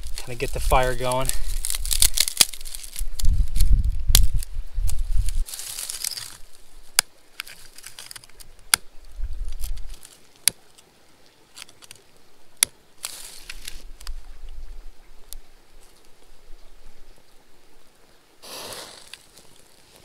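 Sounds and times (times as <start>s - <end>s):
dry grass and twigs rustling: 0.0s - 17.4s, 18.4s - 20.0s.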